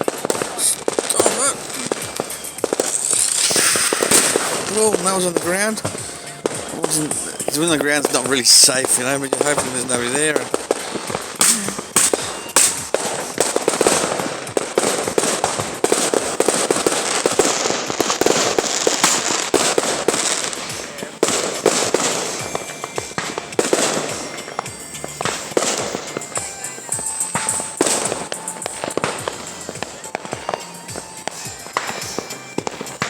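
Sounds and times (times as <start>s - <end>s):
firecrackers and fireworks bangs: 0.0s - 33.0s.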